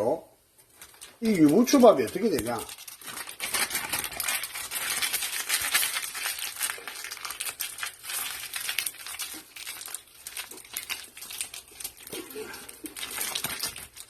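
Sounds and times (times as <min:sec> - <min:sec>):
crinkling and crackling by hand: 0:00.0 - 0:14.0.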